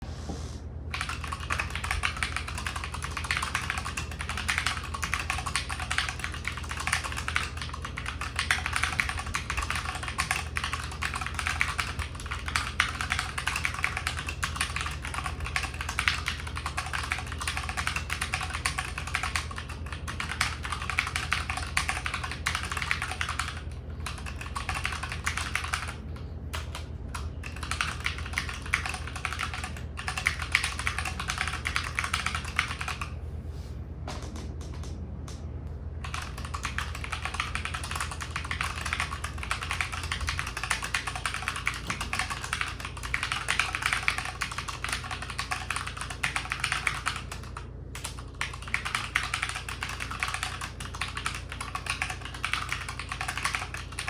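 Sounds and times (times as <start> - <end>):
mechanical keyboard typing: 0.9 - 33.1, 36.0 - 54.0.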